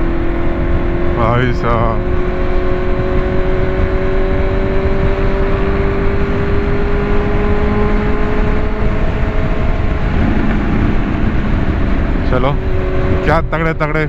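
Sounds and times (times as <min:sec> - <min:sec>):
dense low rumble: 0:00.0 - 0:14.0
vehicle engine running: 0:00.0 - 0:14.0.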